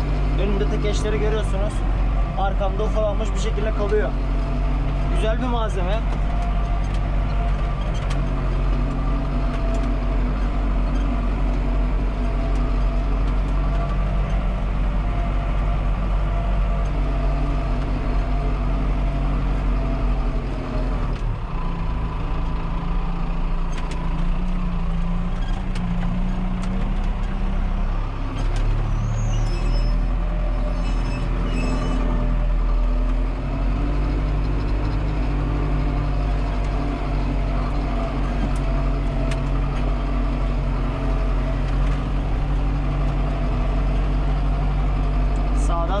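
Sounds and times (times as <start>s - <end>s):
tractor engine running under load: 0.0s - 46.0s.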